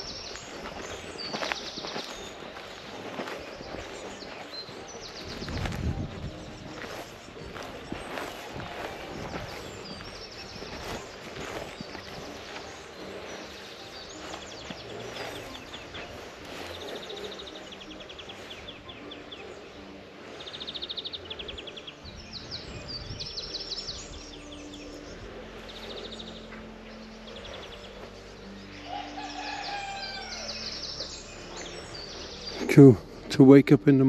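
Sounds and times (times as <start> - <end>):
quiet countryside background noise: 0.0 - 34.0
songbirds trilling and chirping: 0.0 - 34.0.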